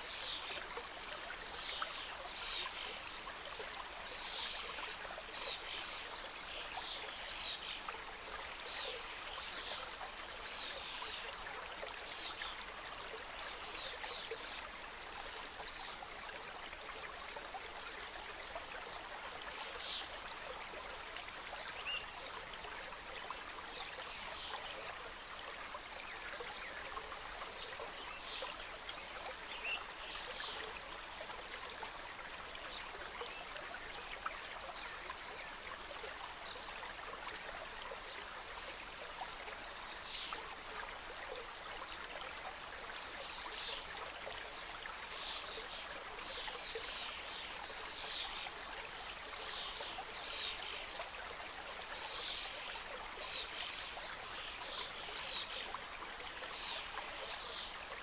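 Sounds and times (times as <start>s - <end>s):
stream flowing over rocks: 0.0s - 58.0s
water splashes and trickles: 0.0s - 58.0s.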